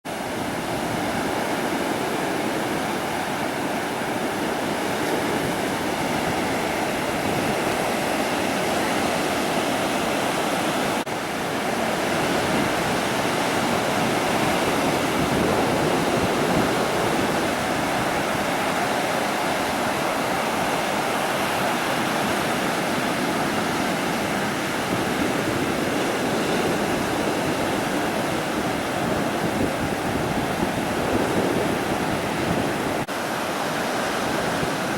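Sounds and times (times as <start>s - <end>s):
ocean surf breaking on beach: 0.1s - 34.9s.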